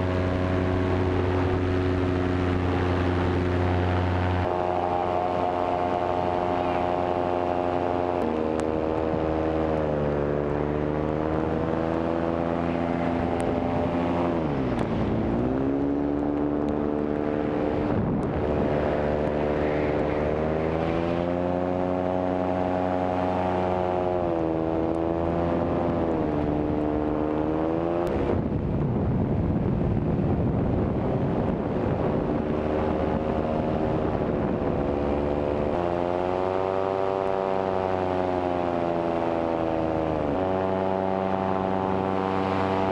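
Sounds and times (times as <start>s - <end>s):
paramotor engine and propeller drone: 0.0s - 42.9s.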